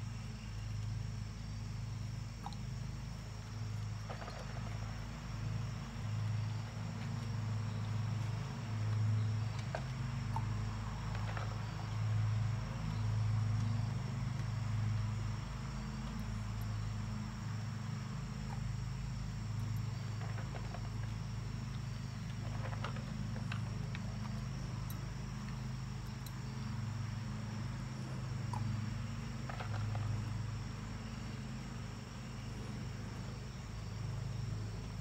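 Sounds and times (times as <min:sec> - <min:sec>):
insect chirring: 0:00.0 - 0:35.0
low hum: 0:00.0 - 0:35.0.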